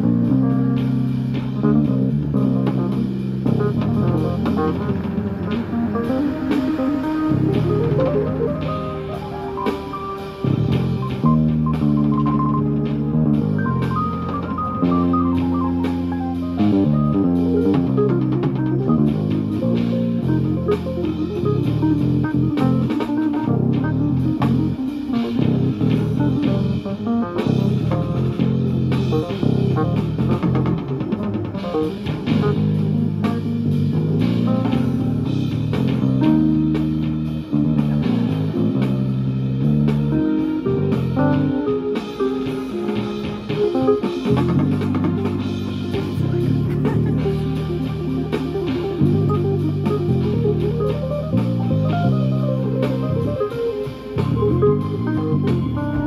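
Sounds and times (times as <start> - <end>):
keyboard chords over bass line: 0.0 - 56.0
steady drum beat: 0.0 - 56.0.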